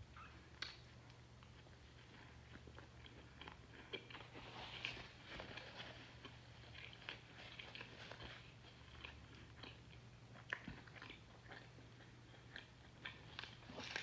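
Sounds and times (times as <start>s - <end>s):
faint low hum: 0.0s - 14.0s
chewing and biting: 0.6s - 14.0s.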